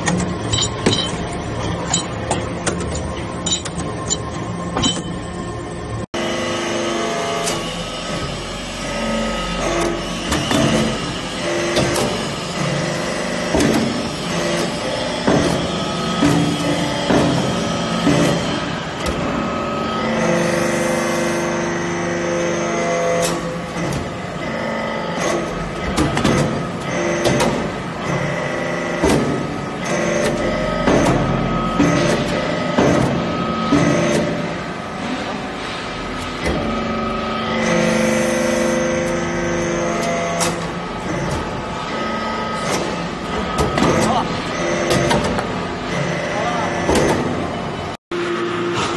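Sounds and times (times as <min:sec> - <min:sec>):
hydraulic press humming: 0:00.0 - 0:48.9.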